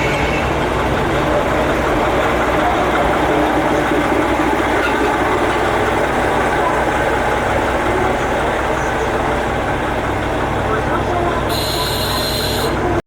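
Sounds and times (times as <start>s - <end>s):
diesel railcar engine idling: 0.0s - 13.0s.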